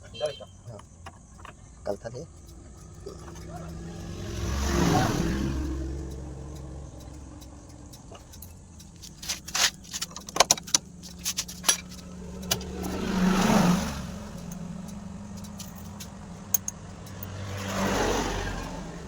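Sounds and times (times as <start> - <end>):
metallic clinks and rattles: 0.0 - 4.2, 5.6 - 18.9
motorcycle engine revving: 0.0 - 19.0.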